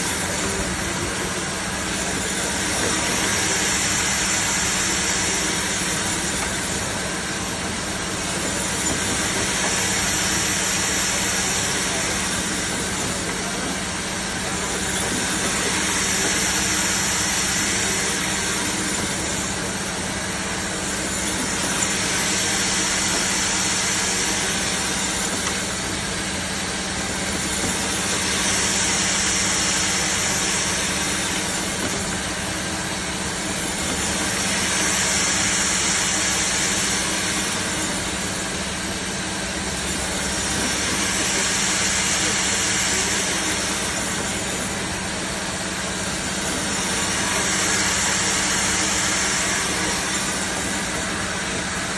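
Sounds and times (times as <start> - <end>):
meat band saw running: 0.0 - 51.9.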